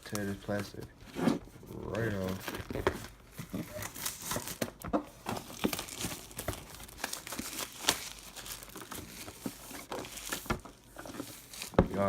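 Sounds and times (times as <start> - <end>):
plastic shrink-wrap tearing and crinkling: 0.0 - 0.8, 1.7 - 12.0.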